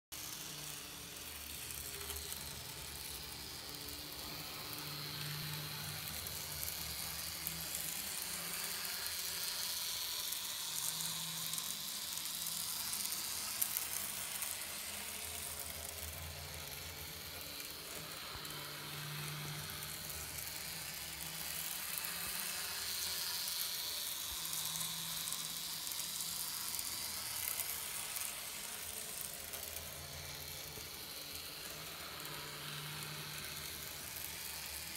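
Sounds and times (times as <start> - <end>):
model train motor whirring: 0.2 - 34.9.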